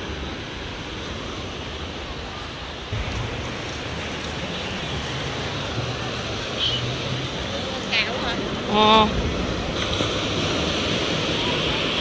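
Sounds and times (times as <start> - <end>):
surf breaking on sandy beach: 0.0 - 12.0.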